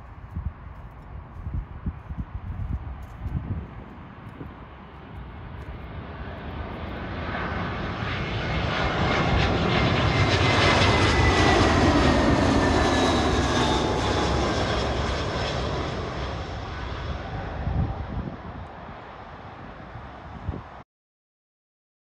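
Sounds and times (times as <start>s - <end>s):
jet engine whine: 0.0s - 20.8s
jet plane passing overhead: 0.0s - 20.8s.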